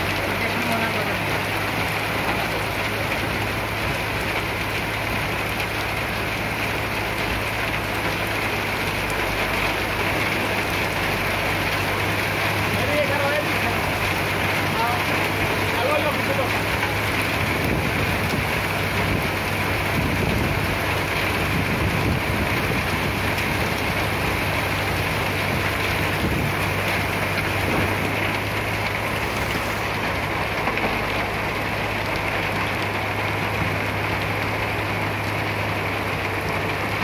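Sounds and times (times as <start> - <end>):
diesel machinery running: 0.0 - 37.0.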